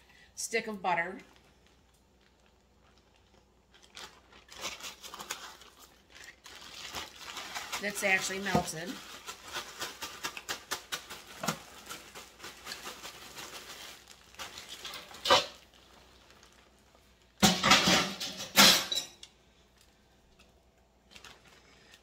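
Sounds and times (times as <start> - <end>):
plastic bag crinkling and rattling: 1.1 - 18.4, 19.5 - 22.0.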